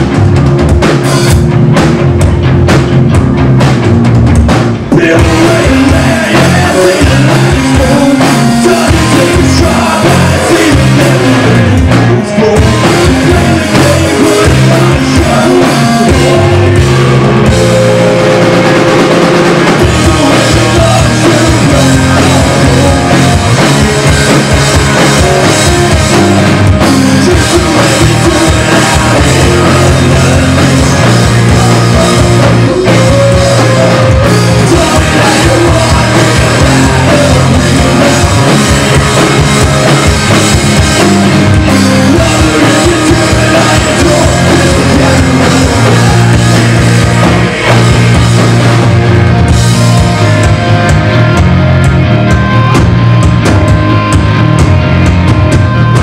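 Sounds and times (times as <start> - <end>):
drum kit: 0.0 - 56.0
rock band playing: 0.0 - 56.0.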